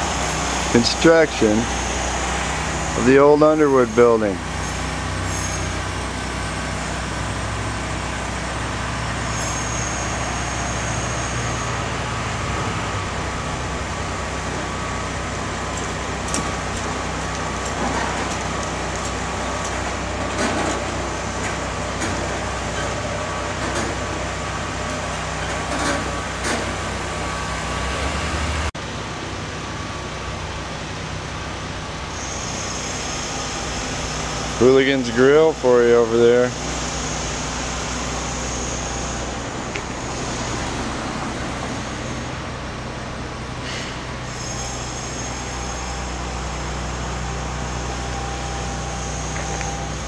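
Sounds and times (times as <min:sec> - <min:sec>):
low engine rumble: 0:00.0 - 0:50.0
street traffic noise: 0:00.0 - 0:50.0.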